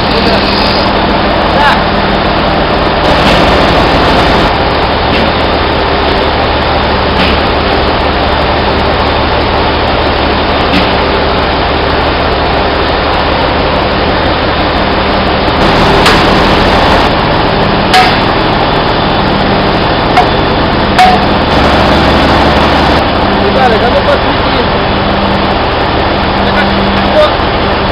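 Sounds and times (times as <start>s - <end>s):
running machinery noise: 0.0s - 27.9s.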